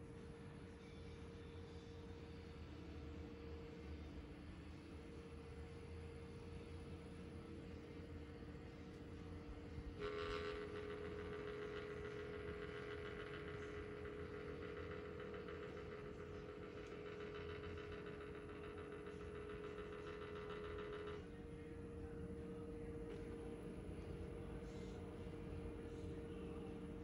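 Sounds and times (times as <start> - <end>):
high whine of fan oscillation: 0.0 - 27.0
fan humming: 3.3 - 27.0.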